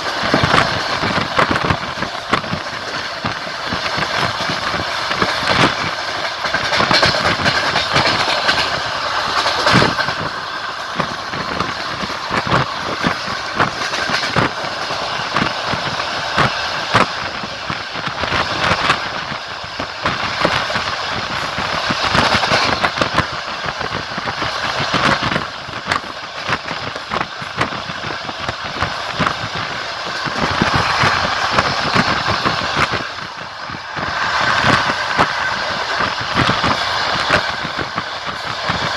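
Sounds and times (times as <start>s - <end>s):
train rumble: 0.0s - 38.9s
train wheels clattering over joints: 0.0s - 38.9s.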